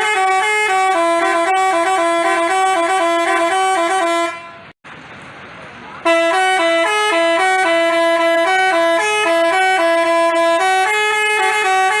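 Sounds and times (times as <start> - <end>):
bus horn playing a melody: 0.0 - 4.8, 6.0 - 12.0.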